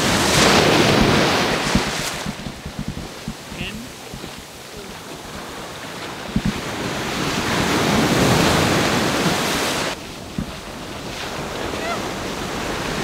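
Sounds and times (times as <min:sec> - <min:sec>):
ocean wave breaking on beach: 0:00.0 - 0:13.0.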